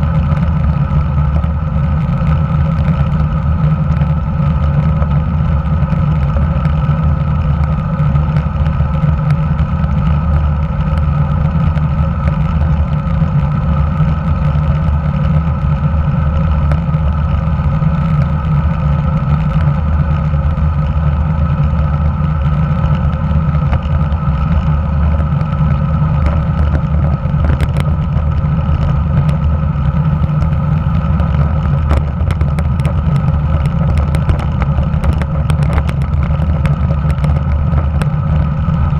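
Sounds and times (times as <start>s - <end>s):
faint steady hum: 0.0s - 38.9s
tyre road noise: 0.0s - 38.9s
wind rumble: 0.0s - 38.9s.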